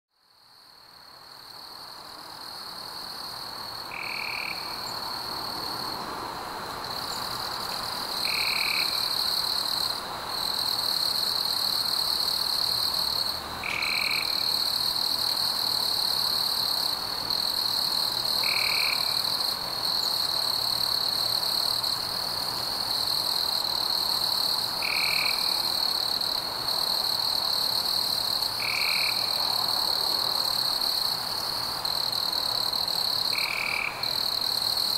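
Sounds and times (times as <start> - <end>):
night insects trilling: 0.2 - 34.9.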